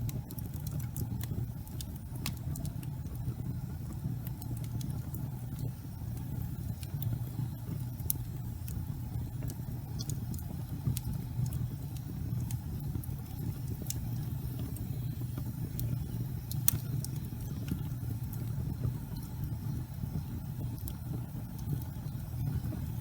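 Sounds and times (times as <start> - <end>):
fire crackles: 0.0 - 23.0
gas fireplace flames rumbling: 0.0 - 23.0.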